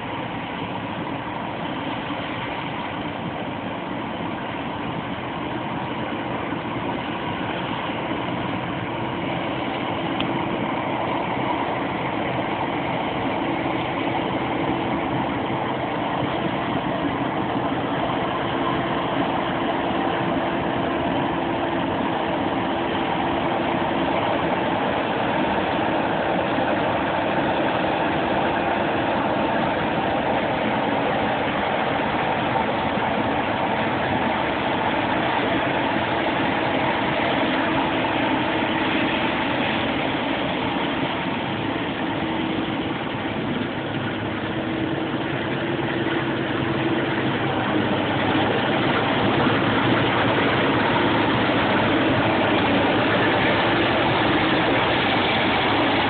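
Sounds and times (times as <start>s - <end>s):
combine harvester engine droning: 0.0s - 56.0s.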